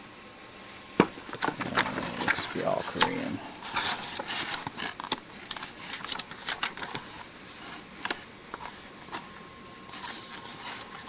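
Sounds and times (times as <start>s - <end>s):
paper pages rustling: 1.1s - 11.0s.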